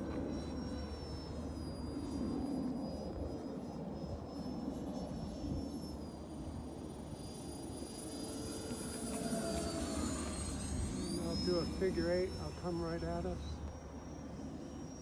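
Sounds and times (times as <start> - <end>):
model jet fans whining: 0.0 - 15.0.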